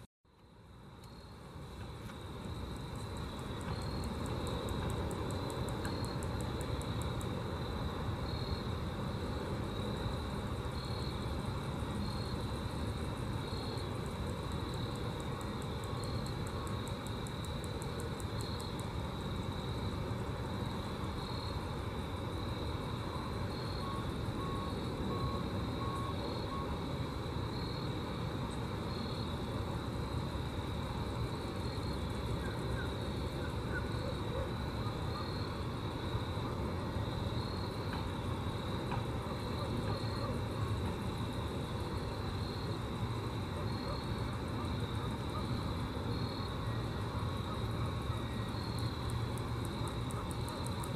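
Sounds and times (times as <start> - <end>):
grasshoppers stridulating: 0.3 - 50.9.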